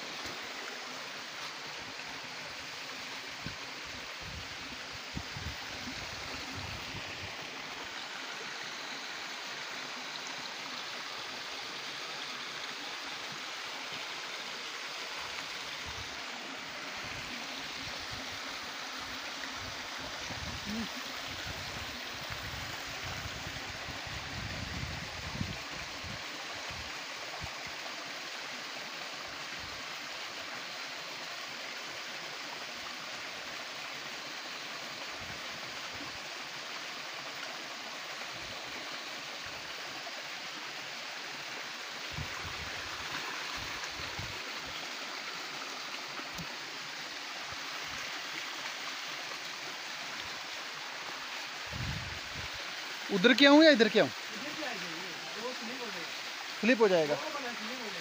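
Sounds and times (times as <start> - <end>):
stream splashing over rocks: 0.0 - 58.0.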